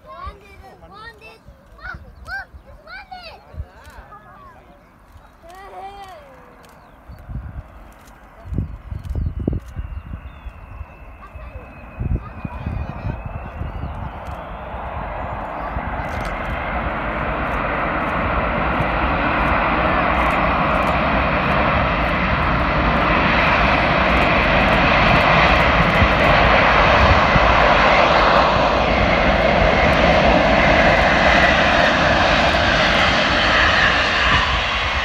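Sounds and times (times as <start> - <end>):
jet engines of landing plane: 0.0 - 35.0.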